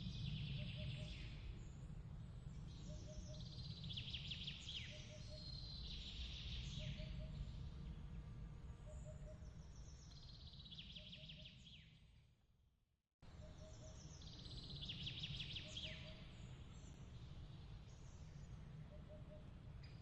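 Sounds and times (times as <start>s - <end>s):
songbird trill: 0.0s - 12.1s, 13.2s - 20.0s.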